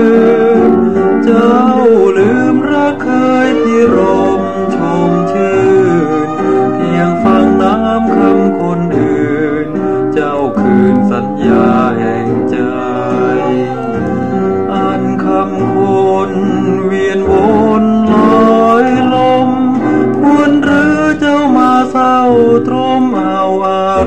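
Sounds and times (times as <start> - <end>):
pop song from vinyl record: 0.0 - 24.0.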